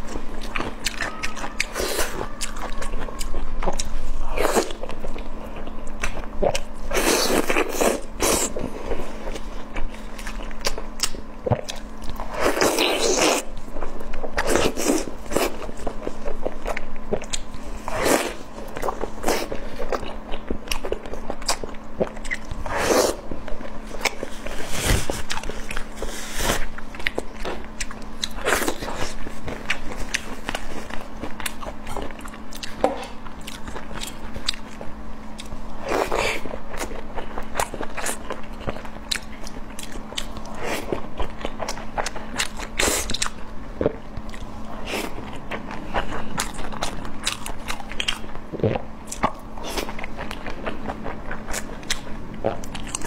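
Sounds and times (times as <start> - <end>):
faint steady hum: 0.0 - 53.0
person chewing food: 0.0 - 53.0.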